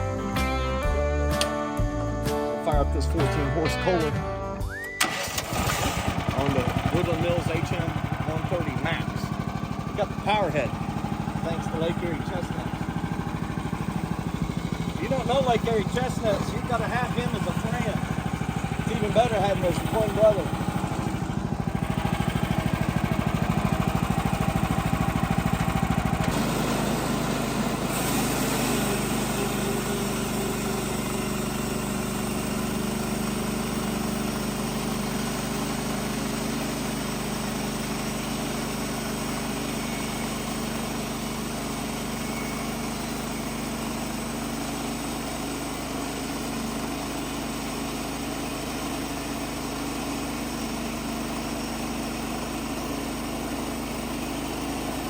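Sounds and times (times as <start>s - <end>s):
sawmill engine running: 2.8s - 55.0s.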